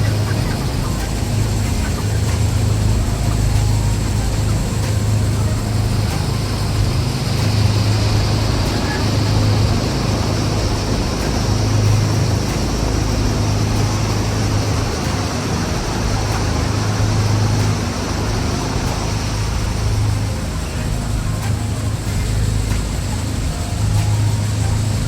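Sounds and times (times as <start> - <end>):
even rushing noise: 0.0 - 25.0
low machine hum: 0.0 - 25.0.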